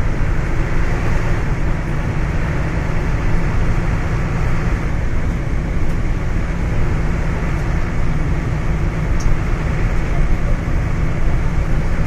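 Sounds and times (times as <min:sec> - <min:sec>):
vehicle cabin engine and tyre rumble: 0:00.0 - 0:12.0.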